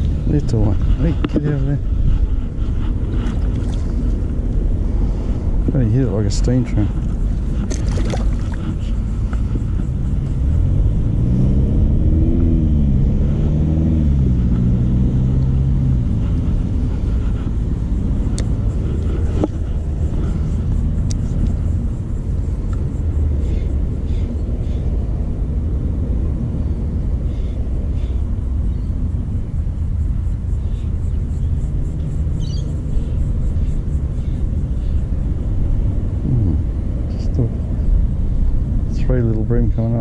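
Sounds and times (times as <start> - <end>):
steady low rumble: 0.0 - 40.0
vehicle engine accelerating: 0.0 - 40.0.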